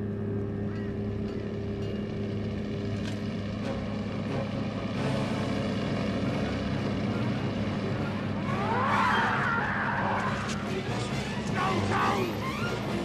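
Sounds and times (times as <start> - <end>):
heavy vehicle engines droning: 0.0 - 13.0
truck engine: 0.0 - 13.0.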